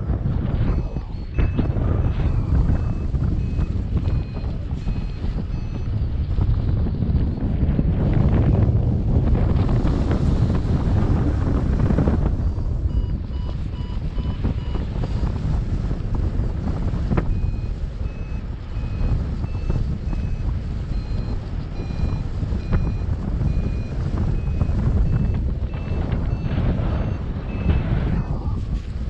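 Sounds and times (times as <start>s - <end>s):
wind rumbling on microphone: 0.0s - 29.0s
variometer beeping: 0.6s - 7.4s, 12.2s - 28.6s.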